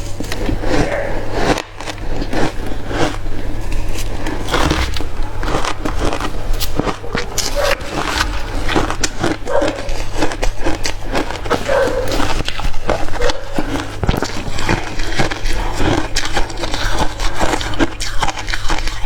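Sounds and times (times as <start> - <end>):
person chewing crushed ice: 0.0 - 19.0.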